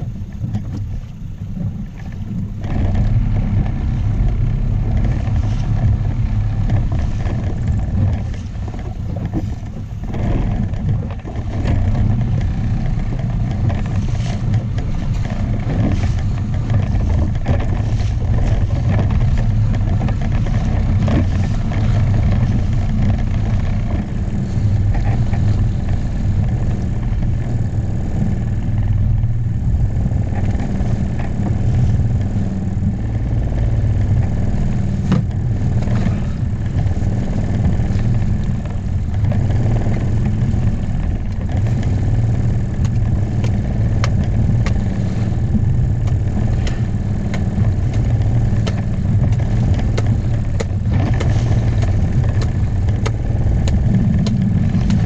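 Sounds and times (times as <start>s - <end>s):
knocks and splashes: 0.0s - 28.2s, 30.0s - 55.0s
boat motor humming: 0.0s - 55.0s
water rushing past hull: 0.0s - 55.0s
wind on microphone: 0.0s - 55.0s.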